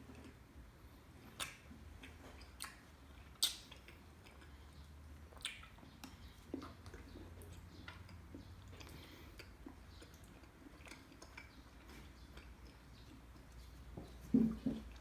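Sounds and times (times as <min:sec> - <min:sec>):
person chewing chocolate: 0:00.0 - 0:14.2
wet mouth clicks: 0:01.3 - 0:13.6.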